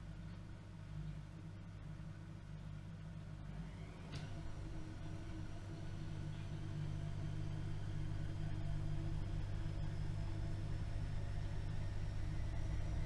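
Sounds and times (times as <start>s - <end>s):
washing machine running: 1.8s - 13.0s.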